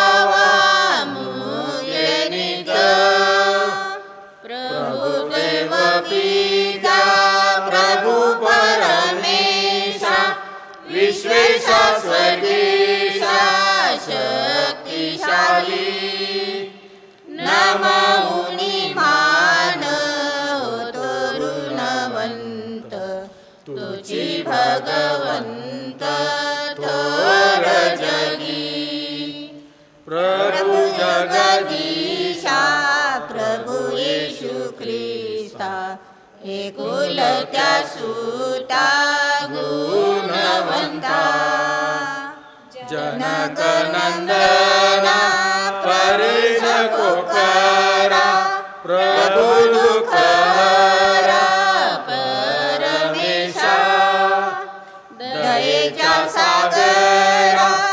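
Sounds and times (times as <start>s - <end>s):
man singing a chant: 0.0s - 16.6s, 17.4s - 29.5s, 30.1s - 54.6s.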